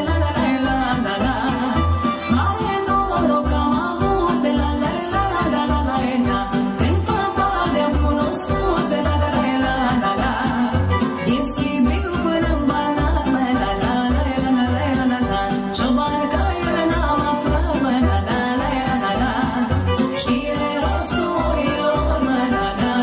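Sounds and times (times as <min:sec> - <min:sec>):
amplified instrumental accompaniment: 0:00.0 - 0:23.0
woman singing into a microphone: 0:00.0 - 0:23.0.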